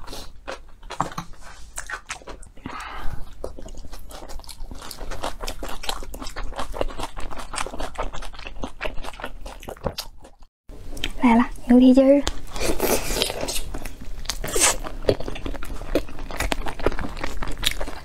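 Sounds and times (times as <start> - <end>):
person chewing food: 0.0 - 11.2, 12.2 - 18.0.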